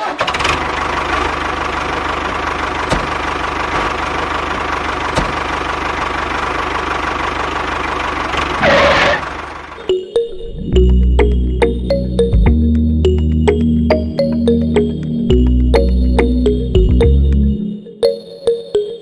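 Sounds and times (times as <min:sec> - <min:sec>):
tractor engine chugging: 0:00.0 - 0:17.6.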